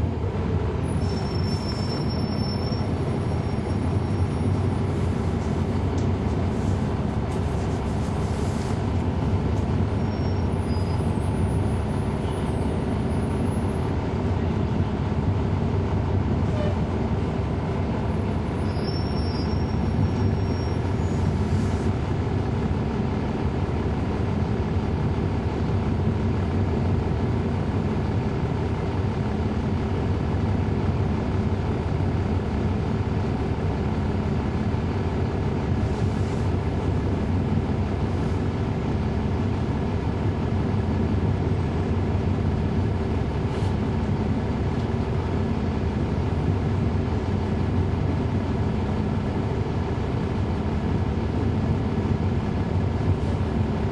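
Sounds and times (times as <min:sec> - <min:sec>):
bus diesel engine drone: 0:00.0 - 0:53.9.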